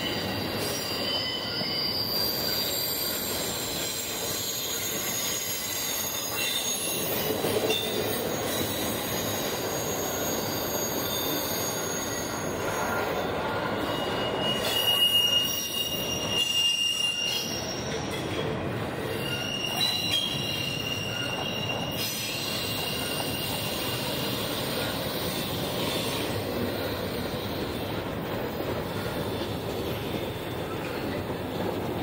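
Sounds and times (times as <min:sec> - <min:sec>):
high-pitched wheel squeal: 0:00.0 - 0:18.1, 0:19.0 - 0:27.8
train wheels rumbling on rail: 0:00.0 - 0:32.0.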